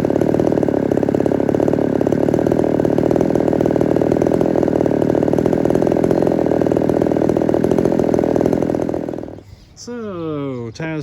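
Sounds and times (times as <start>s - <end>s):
two-stroke chainsaw running: 0.0s - 9.5s.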